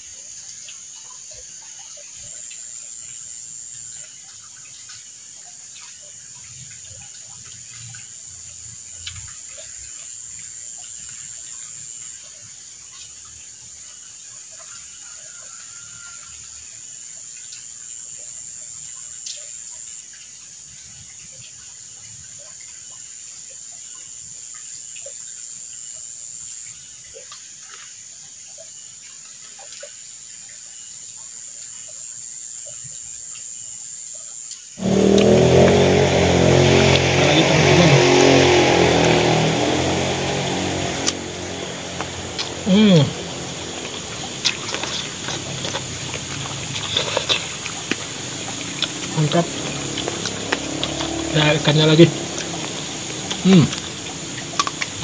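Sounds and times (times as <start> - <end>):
high-pitched insect chorus: 0.0 - 21.6, 30.0 - 55.0.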